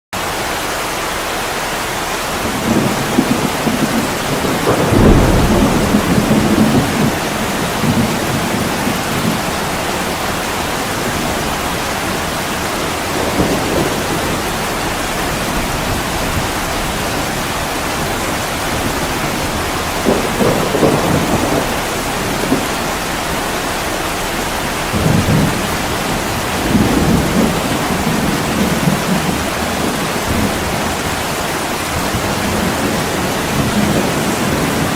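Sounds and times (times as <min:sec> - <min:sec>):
heavy rain on a window: 0:00.2 - 0:34.9
low rumbles: 0:01.5 - 0:34.9.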